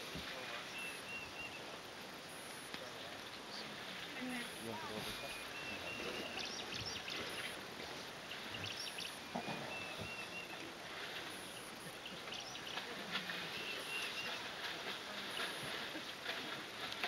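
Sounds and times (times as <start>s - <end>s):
birds chirping: 0.0s - 17.0s
steady outdoor hiss: 0.0s - 17.0s.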